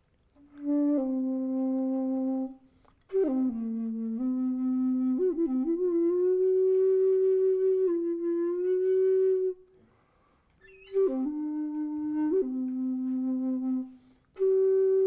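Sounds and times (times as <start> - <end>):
bamboo flute: 0.0 - 10.0, 10.6 - 15.0.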